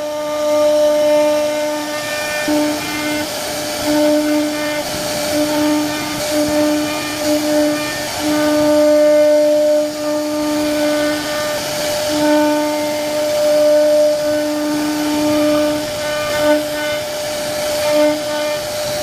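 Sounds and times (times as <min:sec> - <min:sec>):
cutting hiss: 0:00.0 - 0:19.0
lower motor hum: 0:00.0 - 0:19.0
router spindle whine: 0:00.0 - 0:19.0.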